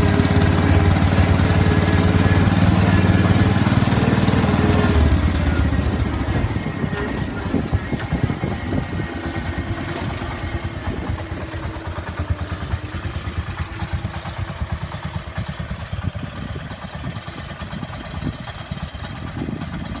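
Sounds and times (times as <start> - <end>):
single-cylinder engine running: 0.0 - 20.0.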